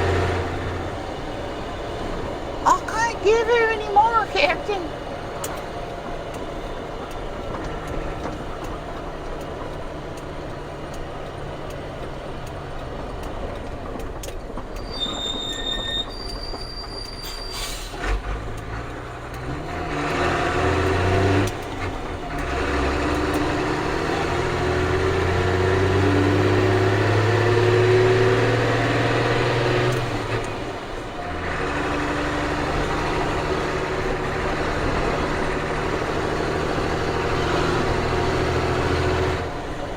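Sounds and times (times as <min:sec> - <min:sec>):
diesel engine running: 0:00.0 - 0:15.1, 0:17.6 - 0:39.9.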